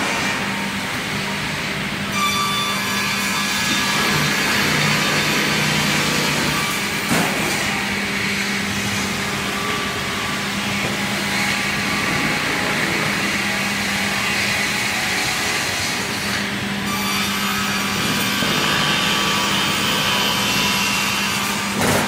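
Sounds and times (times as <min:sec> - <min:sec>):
saw machine humming: 0:00.0 - 0:21.8.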